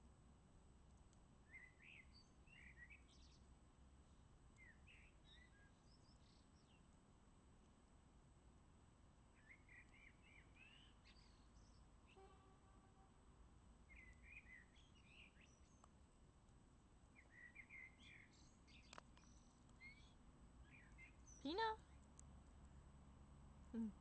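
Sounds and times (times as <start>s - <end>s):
faint songbird chirping: 0.0s - 24.0s.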